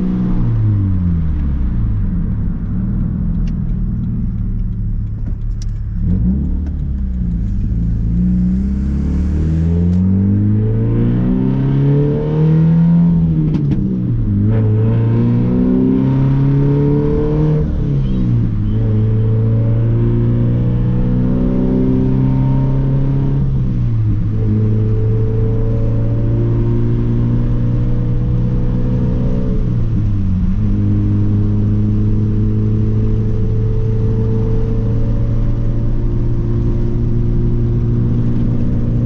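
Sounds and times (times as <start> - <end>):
car exhaust accelerating hard: 0.0 - 39.0.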